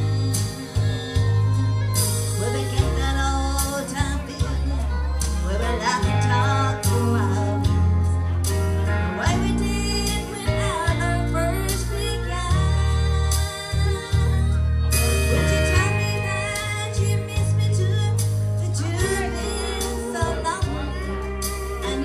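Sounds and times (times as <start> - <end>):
backing track with guitar and bass: 0.0 - 22.0
woman singing country song: 0.0 - 22.0.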